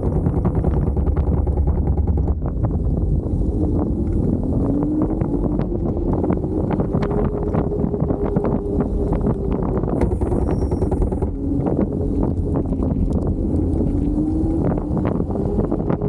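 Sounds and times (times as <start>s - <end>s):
small rattles and knocks: 0.0s - 4.5s, 5.1s - 15.3s
wind rushing over microphone: 0.0s - 16.0s.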